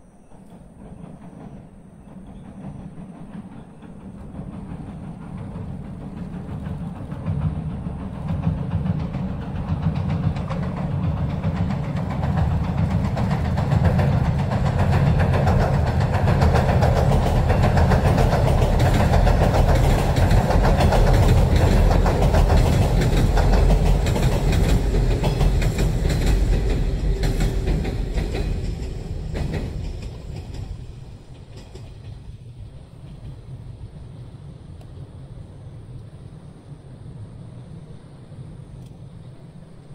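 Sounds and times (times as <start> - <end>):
train rumbling over steel bridge: 0.0 - 39.9.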